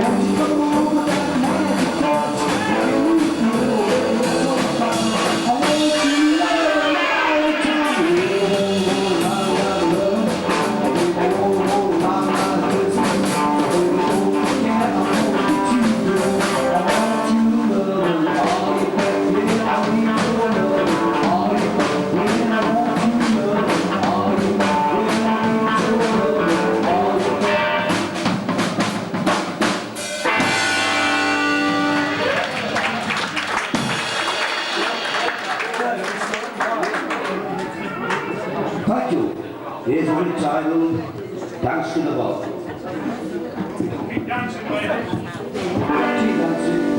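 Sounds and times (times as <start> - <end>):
drum kit rimshots: 0.0 - 36.6, 43.5 - 46.9
live band playing guitar music: 0.0 - 46.9.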